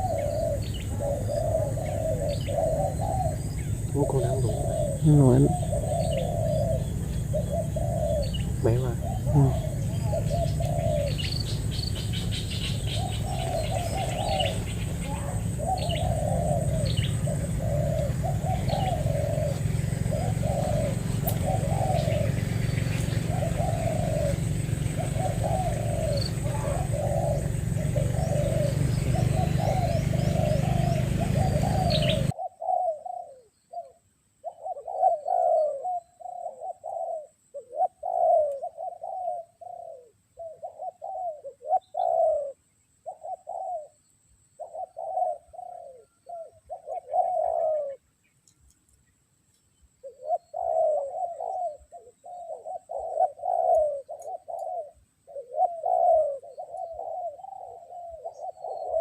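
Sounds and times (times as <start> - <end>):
doves cooing: 0.0 - 48.2, 49.9 - 59.0
small birds chirping: 0.0 - 59.0.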